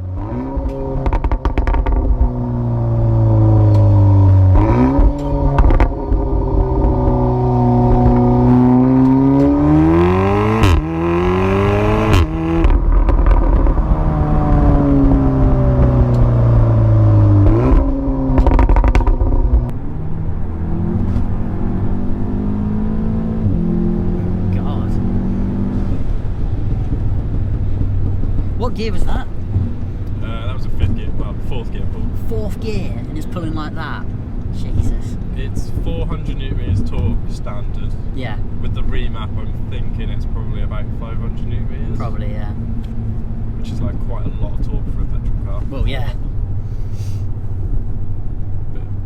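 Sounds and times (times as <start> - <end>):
car engine revving: 0.0 - 49.0
gear changes: 0.0 - 49.0.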